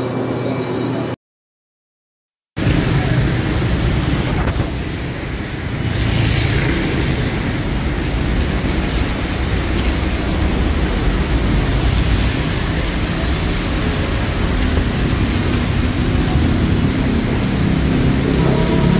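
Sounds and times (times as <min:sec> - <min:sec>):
rain: 0:02.6 - 0:18.9
road traffic: 0:02.6 - 0:18.9.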